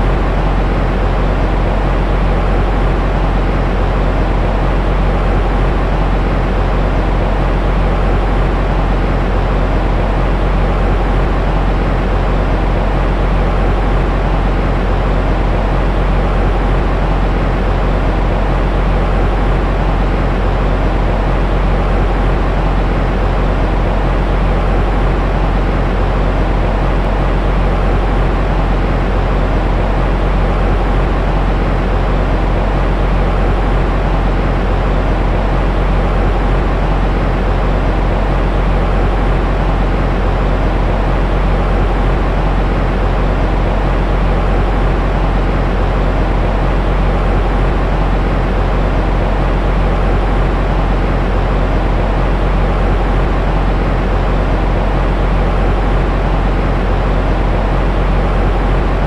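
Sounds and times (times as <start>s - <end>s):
deep white noise hush: 0.0s - 59.0s.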